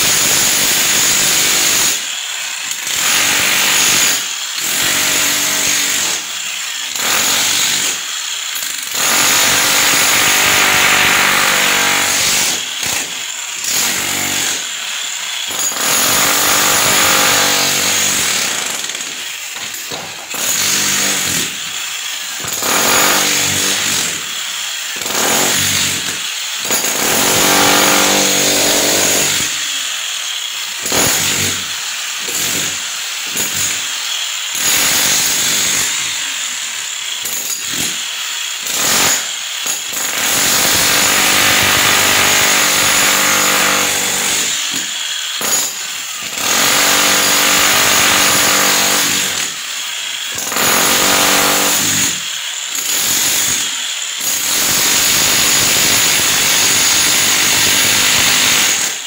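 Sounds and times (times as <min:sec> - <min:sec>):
electric power tool bursts: 0:03.0 - 0:53.8.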